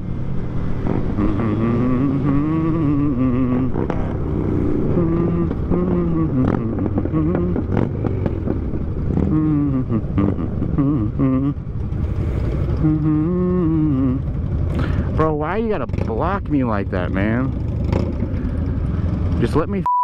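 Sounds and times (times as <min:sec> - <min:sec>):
motorcycle engine running: 0:00.0 - 0:19.8
road and wind rumble: 0:00.0 - 0:19.9.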